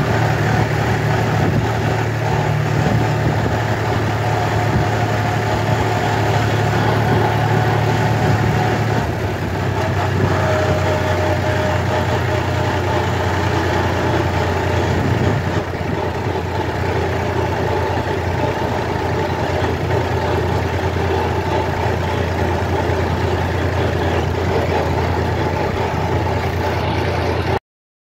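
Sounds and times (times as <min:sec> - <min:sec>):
tractor diesel engine running: 0:00.0 - 0:27.6.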